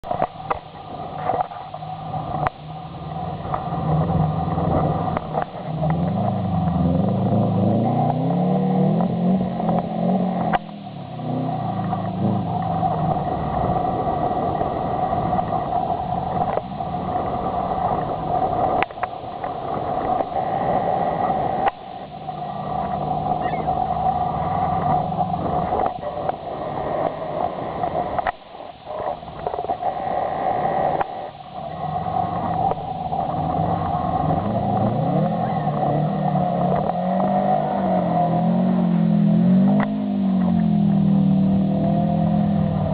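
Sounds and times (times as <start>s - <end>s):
car engine revving: 1.2s - 29.1s, 29.9s - 42.9s.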